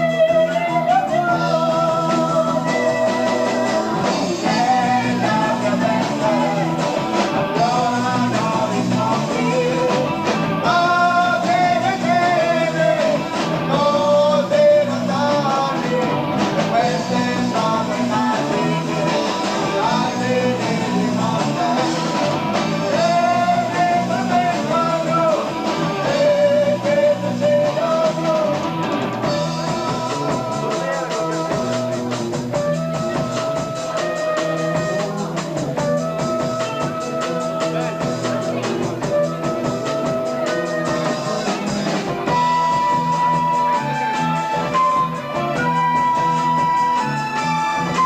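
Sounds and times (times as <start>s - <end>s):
live rock band playing: 0.0s - 48.0s
person singing: 0.0s - 48.0s.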